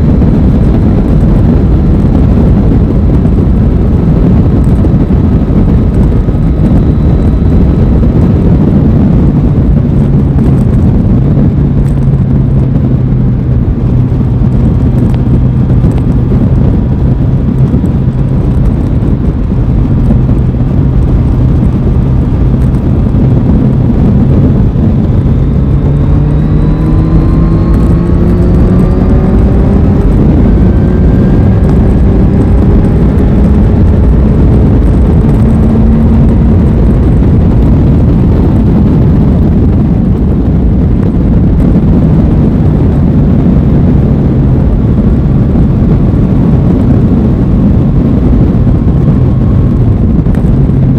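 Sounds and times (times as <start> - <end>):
motorcycle engine revving: 0.0 - 50.9
road noise: 0.0 - 50.9
wind rush: 0.0 - 50.9.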